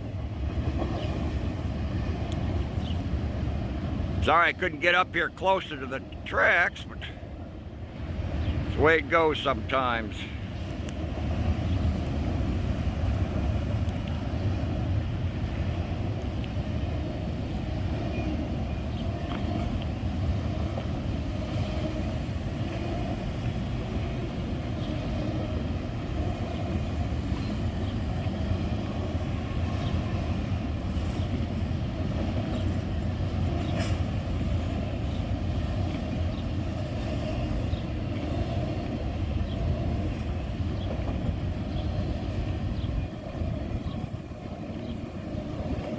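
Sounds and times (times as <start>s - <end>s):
distant freight train rumbling: 0.0s - 45.9s.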